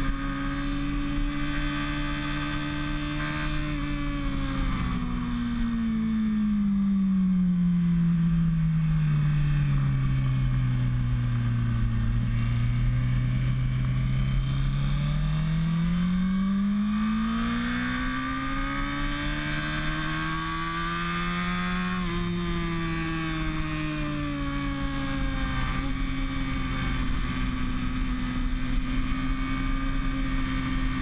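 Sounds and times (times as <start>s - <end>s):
motorcycle engine running hard: 0.0s - 31.0s.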